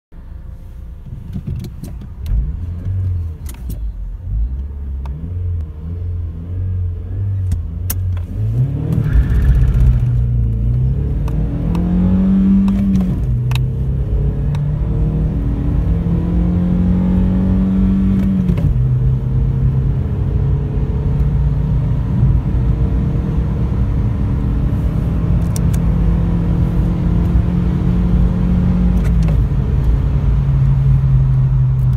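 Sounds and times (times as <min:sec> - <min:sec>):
car engine accelerating hard: 0:04.2 - 0:31.9.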